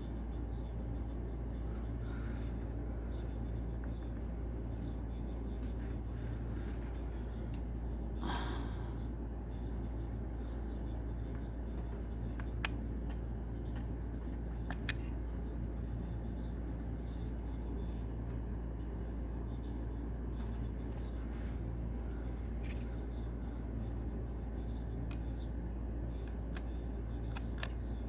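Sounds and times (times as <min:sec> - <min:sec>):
low background rumble and hum: 0:00.0 - 0:28.0.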